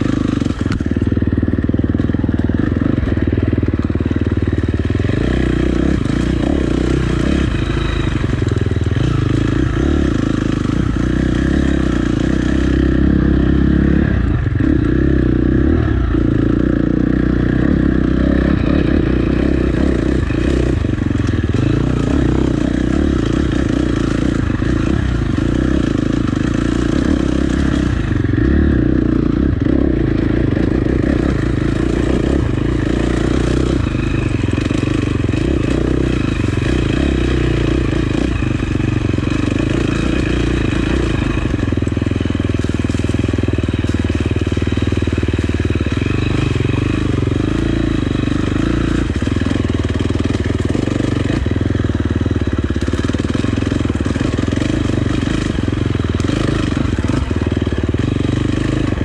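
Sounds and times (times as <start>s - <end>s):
dirt bike engine at low revs: 0.0s - 59.0s.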